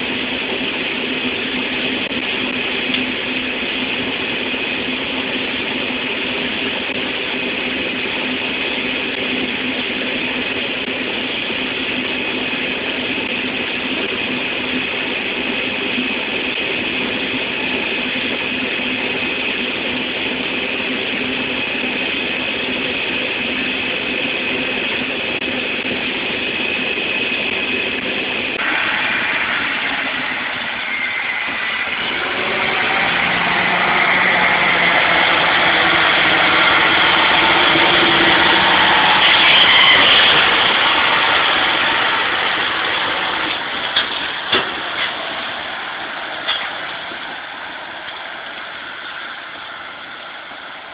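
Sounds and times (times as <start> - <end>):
harvest machinery running: 0.0 - 50.9
high whine: 0.0 - 50.9.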